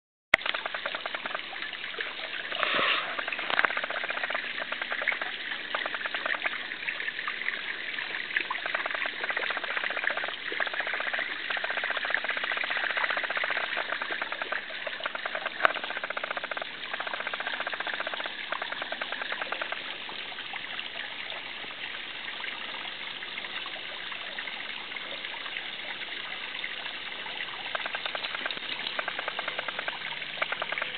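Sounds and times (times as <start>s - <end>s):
water running and splashing: 0.4s - 30.9s.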